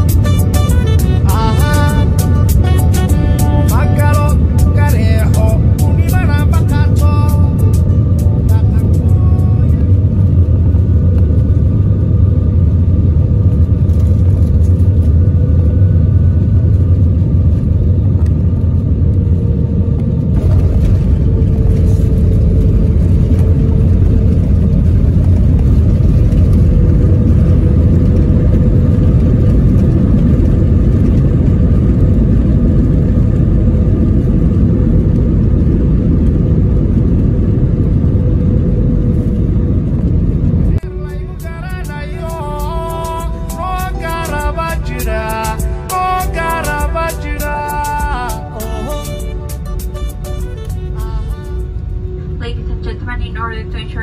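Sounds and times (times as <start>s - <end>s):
airliner engines and wheels rumbling: 0.0s - 54.0s
steady cabin hum: 0.0s - 54.0s.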